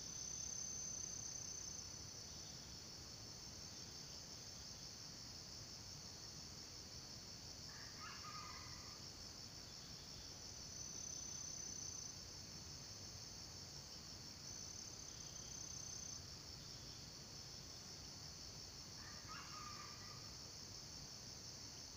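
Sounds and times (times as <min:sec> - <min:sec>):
shrill insect chorus: 0:00.0 - 0:21.9.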